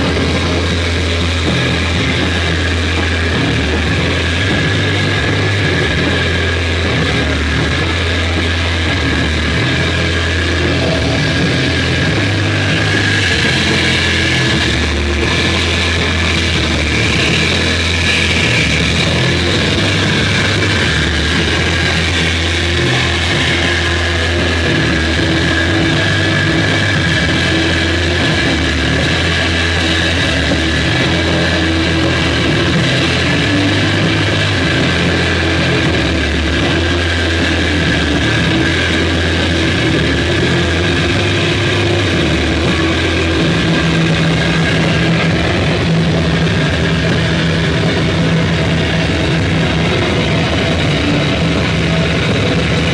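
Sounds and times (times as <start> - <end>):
distorted electric guitar noise: 0.0 - 52.9
sustained low drone: 0.0 - 52.9.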